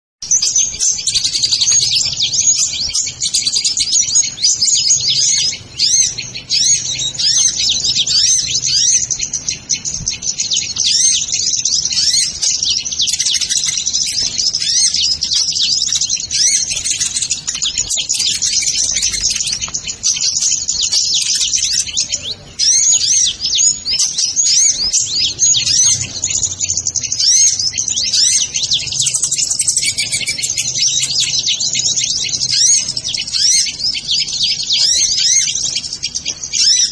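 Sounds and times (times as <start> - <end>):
sunbirds twittering: 0.2 - 36.9.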